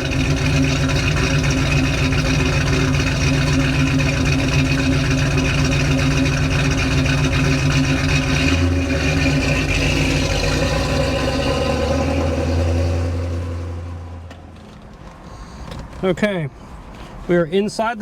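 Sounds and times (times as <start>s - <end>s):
car engine running: 0.0s - 16.1s.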